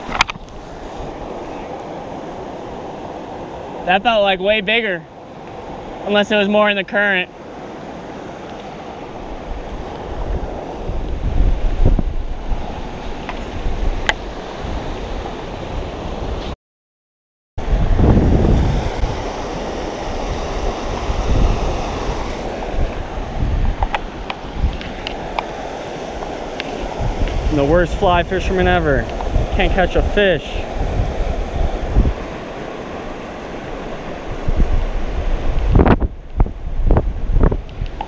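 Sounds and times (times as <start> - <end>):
wind buffeting microphone: 0.0 - 3.8, 7.5 - 16.5, 17.6 - 38.0
river running over gravel: 0.0 - 14.5, 18.1 - 35.9.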